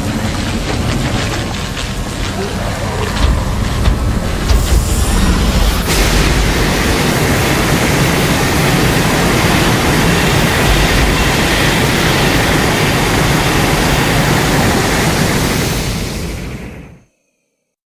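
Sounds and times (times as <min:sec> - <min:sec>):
rushing rumble: 0:00.0 - 0:17.0.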